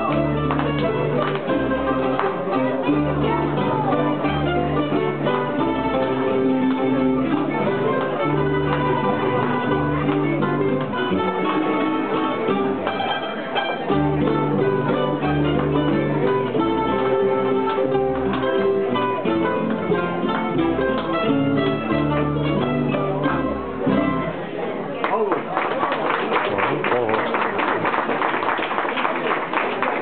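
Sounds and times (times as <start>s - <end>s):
string bass notes: 0.0s - 24.6s
mandolin ensemble playing: 0.0s - 25.0s.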